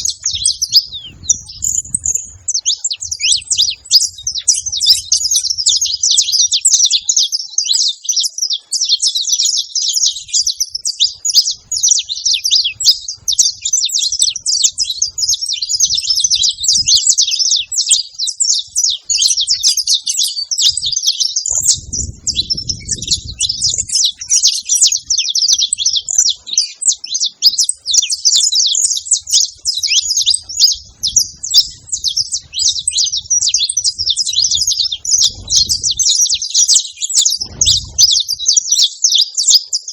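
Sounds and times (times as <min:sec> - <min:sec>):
finches chattering: 0:00.0 - 0:39.9.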